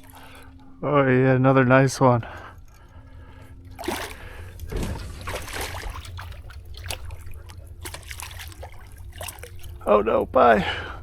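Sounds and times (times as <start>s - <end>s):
water splashing and dripping: 0.0s - 0.8s, 2.3s - 11.0s.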